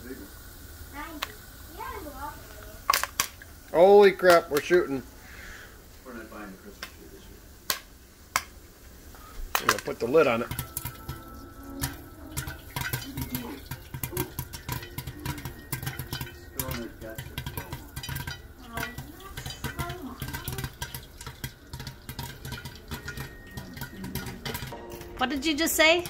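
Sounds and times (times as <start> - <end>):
popcorn popping in a pot: 0.0 - 26.0.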